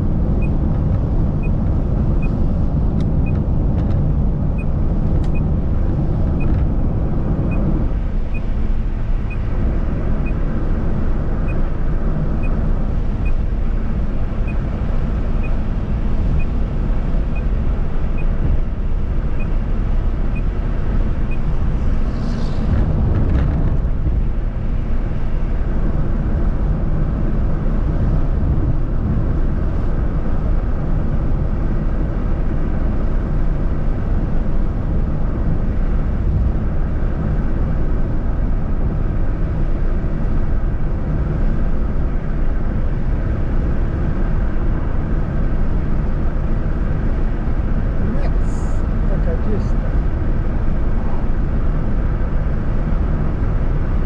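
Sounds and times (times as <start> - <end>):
car driving on highway: 0.0 - 54.0.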